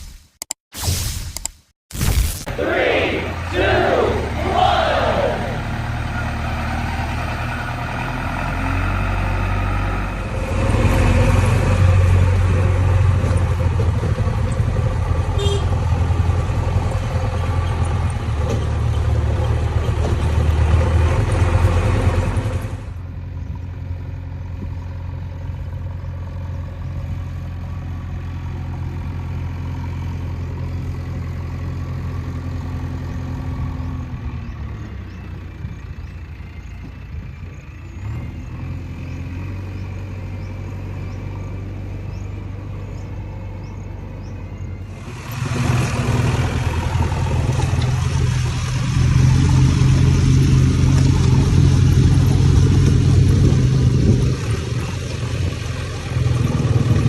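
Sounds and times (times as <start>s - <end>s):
diesel engine running: 2.5s - 57.0s.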